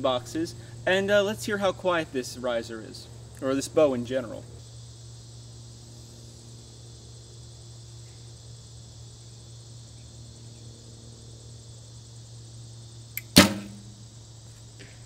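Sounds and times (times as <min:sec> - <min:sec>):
low even hum: 0:00.0 - 0:15.0
steady high hiss: 0:00.0 - 0:15.0.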